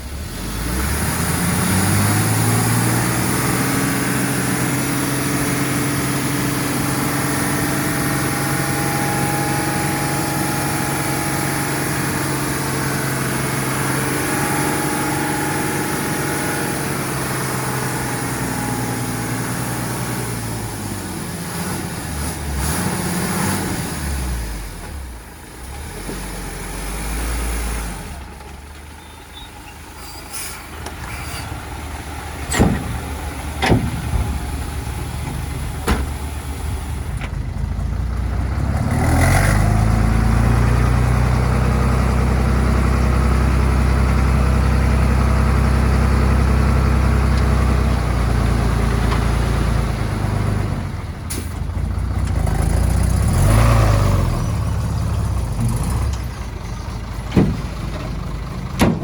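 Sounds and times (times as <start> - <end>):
heavy diesel machinery working: 0.0 - 59.0.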